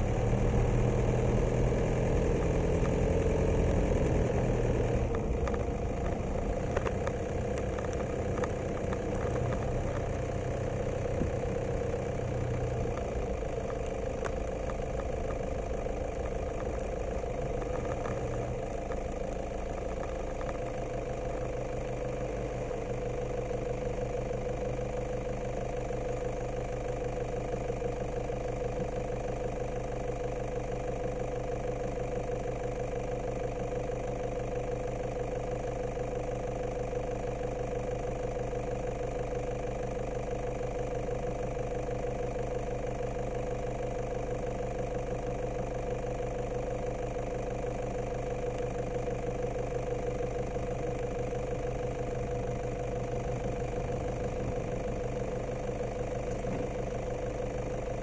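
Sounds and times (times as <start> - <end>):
motor humming steadily: 0.0 - 58.0.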